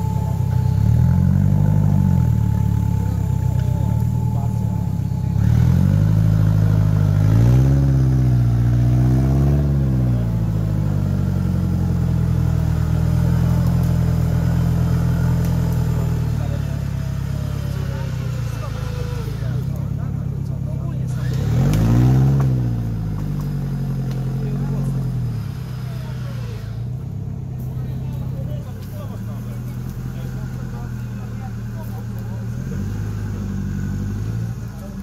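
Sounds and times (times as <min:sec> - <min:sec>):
buggy engine revving: 0:00.0 - 0:35.0.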